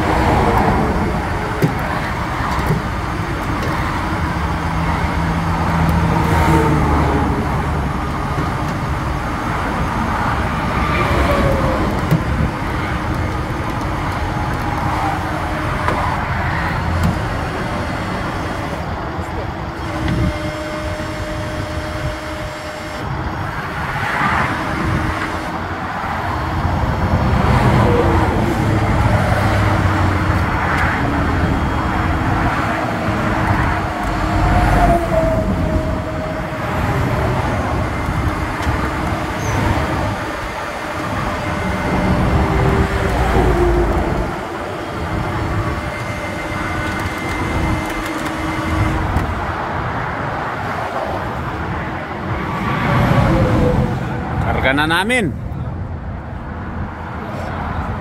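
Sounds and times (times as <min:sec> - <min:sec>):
highway traffic rushing past: 0:00.0 - 0:58.0.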